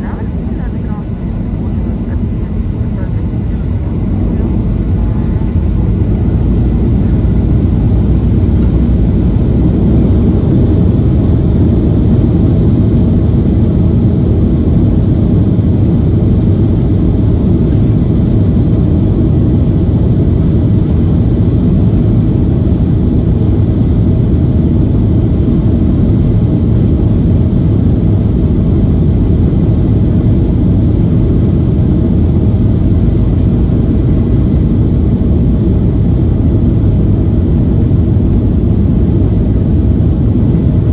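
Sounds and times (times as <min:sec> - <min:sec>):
jet engines rumbling: 0:00.0 - 0:40.9
wheels rumbling on runway: 0:00.0 - 0:40.9.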